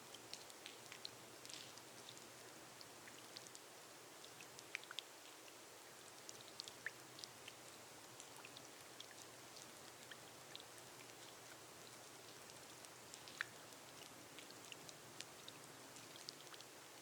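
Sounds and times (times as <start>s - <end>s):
rain on a glass roof: 0.0s - 17.0s
raindrops ticking: 0.1s - 17.0s.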